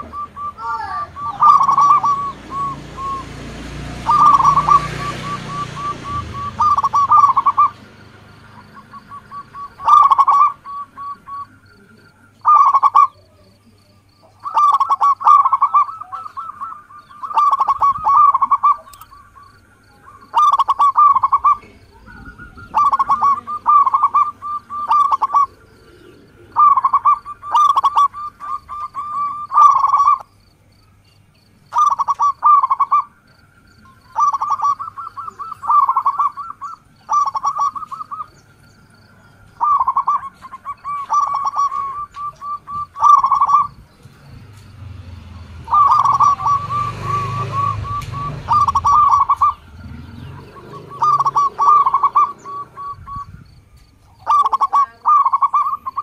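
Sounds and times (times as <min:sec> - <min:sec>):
dove cooing: 0:00.0 - 0:30.8, 0:31.6 - 0:56.0.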